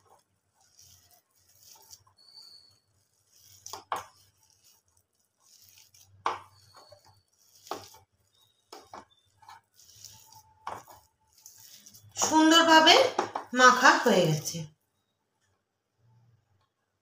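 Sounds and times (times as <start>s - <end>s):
hands kneading wet batter: 0.0s - 14.0s.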